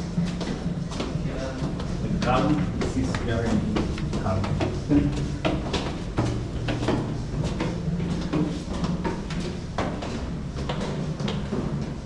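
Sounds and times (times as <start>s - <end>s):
irregular footsteps: 0.0s - 12.0s
steady low hum: 0.0s - 12.0s.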